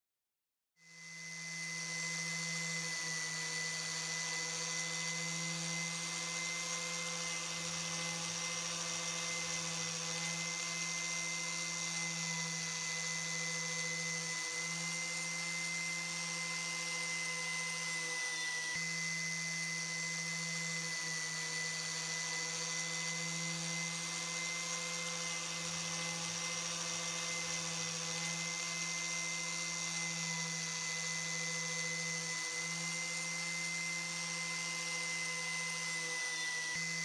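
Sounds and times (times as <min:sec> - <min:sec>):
electric power tool motor running: 0:00.8 - 0:37.0.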